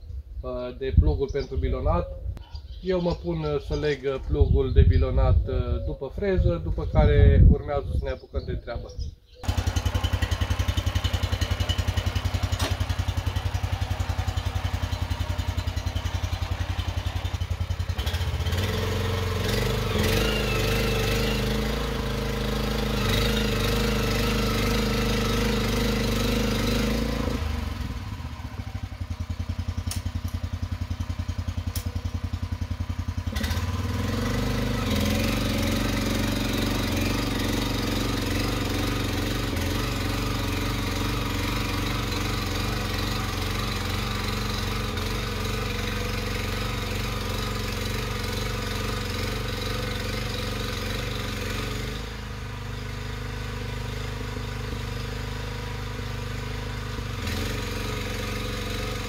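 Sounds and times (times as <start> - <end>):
two-wheel tractor engine running: 9.4 - 59.0.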